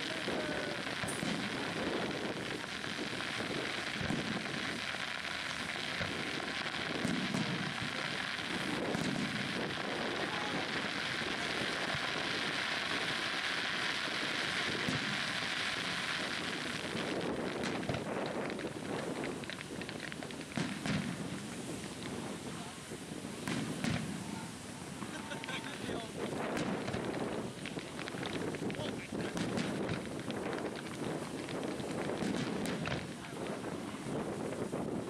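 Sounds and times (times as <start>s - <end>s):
firework shells popping: 0.0s - 22.4s, 23.4s - 35.0s
fireworks crackling: 0.0s - 35.0s
wind buffeting microphone: 0.0s - 35.0s.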